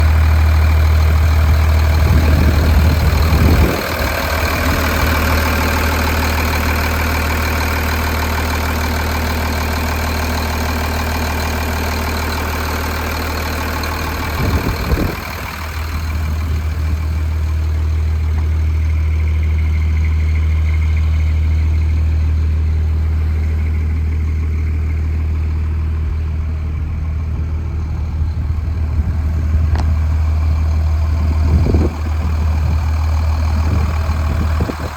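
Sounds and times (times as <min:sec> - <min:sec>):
fire truck engine idling: 0:00.0 - 0:34.9.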